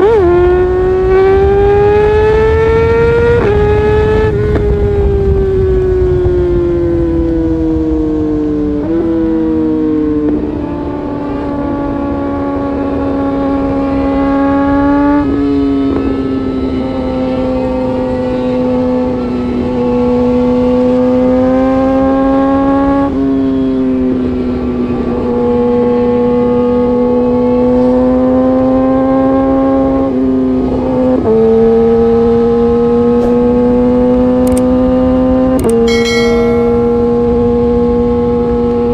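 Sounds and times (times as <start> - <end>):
motorcycle engine at high revs: 0.0 - 5.5, 8.6 - 38.9.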